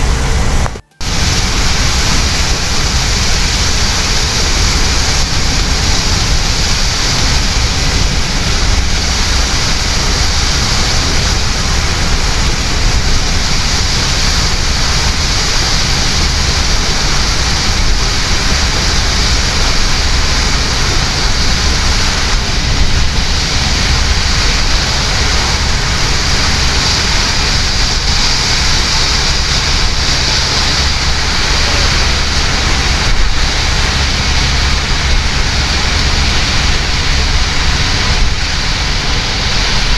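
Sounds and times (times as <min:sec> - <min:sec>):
car engine: 0:00.0 - 0:39.9
heavy rain on car roof: 0:00.0 - 0:39.9
tyres rumbling on wet road: 0:00.0 - 0:39.9.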